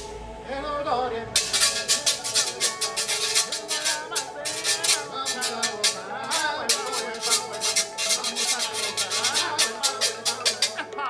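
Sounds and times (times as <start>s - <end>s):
latin music: 0.0s - 11.0s
metal scraper scraped with stick: 1.4s - 11.0s.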